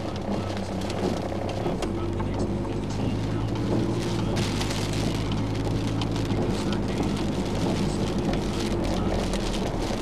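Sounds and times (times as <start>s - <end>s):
heavy rain: 0.0s - 10.0s
low engine hum: 0.0s - 10.0s.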